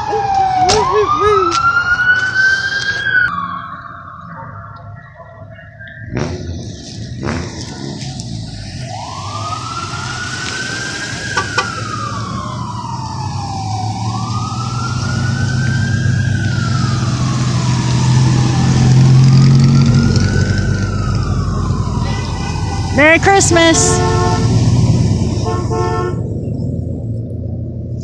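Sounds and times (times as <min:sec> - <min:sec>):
siren wailing: 0:00.0 - 0:06.9, 0:07.7 - 0:27.0
truck engines rumbling: 0:00.0 - 0:28.0.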